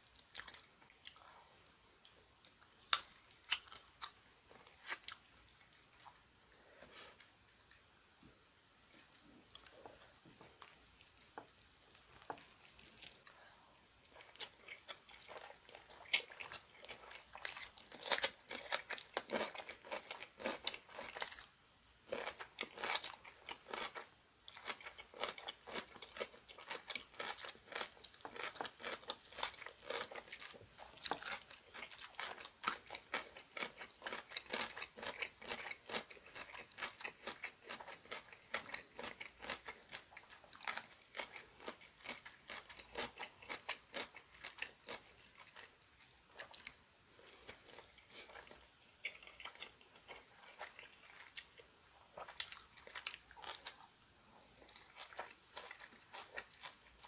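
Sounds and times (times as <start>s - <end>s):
person chewing food: 0.0s - 7.9s, 8.9s - 57.0s.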